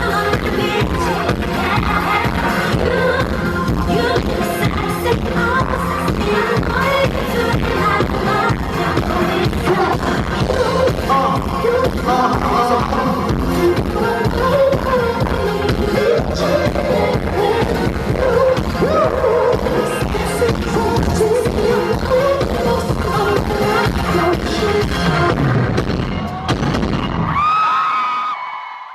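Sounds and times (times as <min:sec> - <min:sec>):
pop song with singing: 0:00.0 - 0:28.8.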